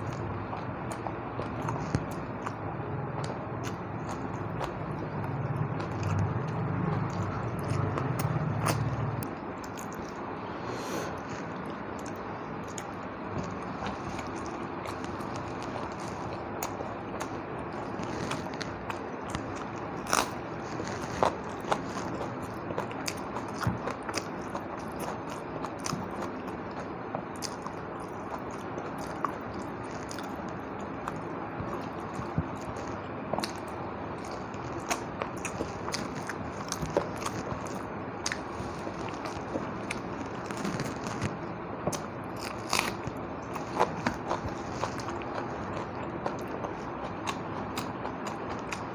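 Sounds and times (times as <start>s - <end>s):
person chewing and crunching: 0.0s - 48.9s.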